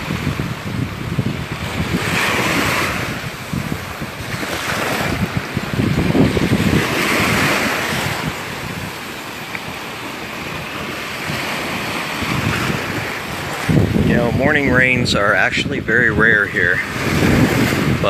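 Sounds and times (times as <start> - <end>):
surf breaking on beach: 0.0 - 18.0
wind rumbling on microphone: 0.0 - 18.0.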